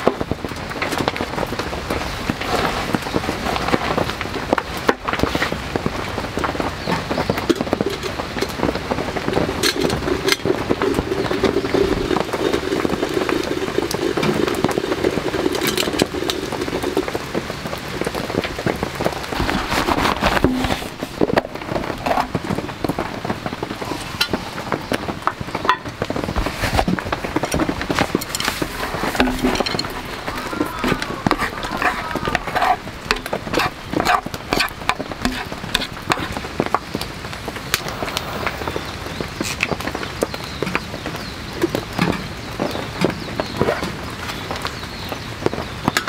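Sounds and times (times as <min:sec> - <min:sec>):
heavy rain falling: 0:00.0 - 0:46.0
wood fire crackling and popping: 0:00.0 - 0:46.0.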